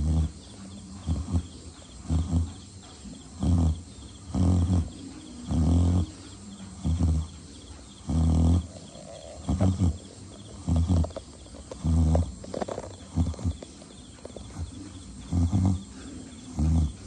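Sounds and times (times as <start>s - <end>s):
pig snoring: 0.0s - 17.0s.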